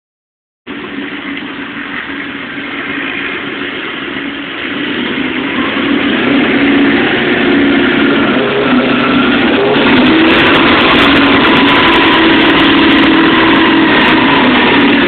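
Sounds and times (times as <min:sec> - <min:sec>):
car engine idling: 0:00.7 - 0:15.0.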